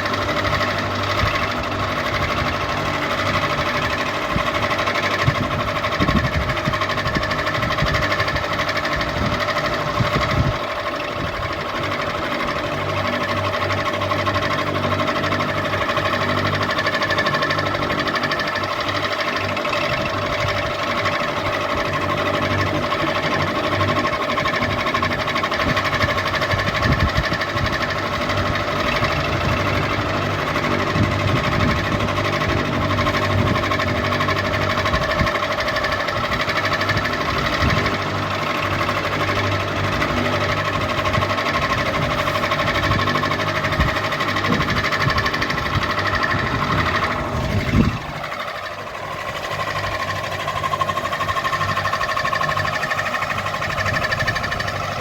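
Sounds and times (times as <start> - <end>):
ceiling fan motor hum and rattle: 0.0 - 55.0.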